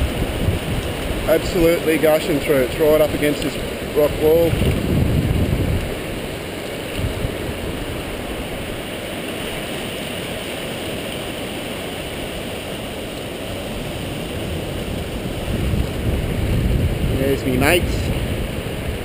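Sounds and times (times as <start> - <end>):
floodwater rushing past rocks: 0.0 - 19.0.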